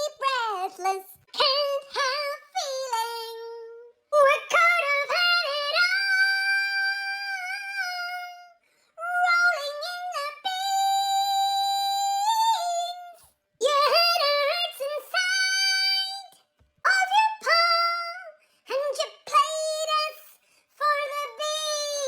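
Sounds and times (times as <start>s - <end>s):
high solo singing voice: 0.0s - 22.0s.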